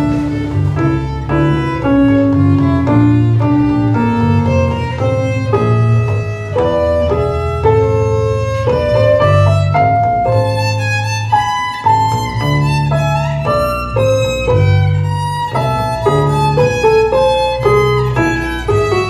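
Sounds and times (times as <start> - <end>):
low sustained bass notes: 0.0 - 19.0
violin melody: 0.0 - 19.0.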